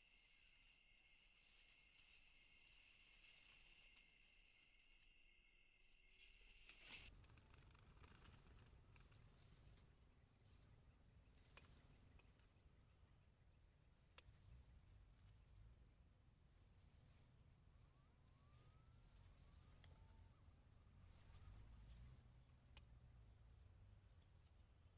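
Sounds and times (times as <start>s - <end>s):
high-pitched insect drone: 0.0s - 24.9s.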